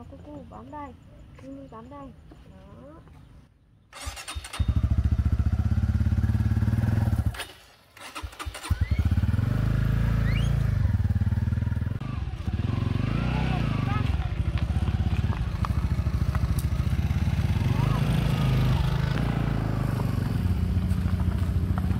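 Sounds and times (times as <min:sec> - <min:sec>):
motorcycle engine starting and running: 0:03.9 - 0:21.9.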